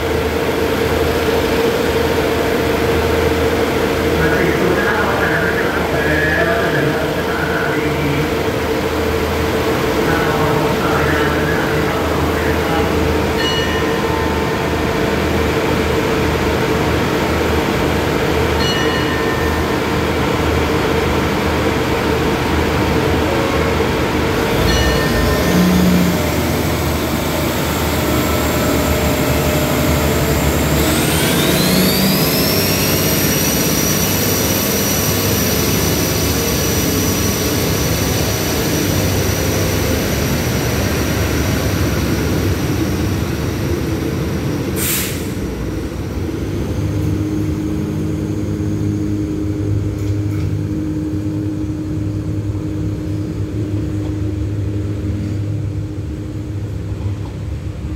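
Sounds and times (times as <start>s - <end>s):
high whine: 0.0s - 57.4s
diesel train engines: 0.0s - 57.9s.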